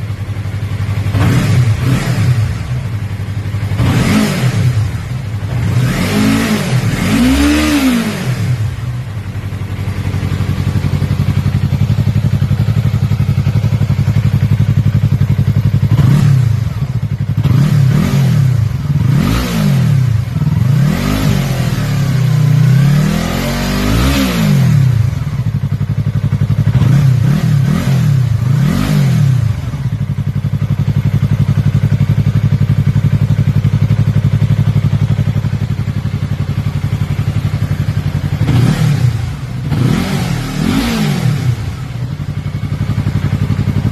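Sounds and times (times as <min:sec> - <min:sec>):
motorcycle engine idling and revving: 0:00.0 - 0:43.9.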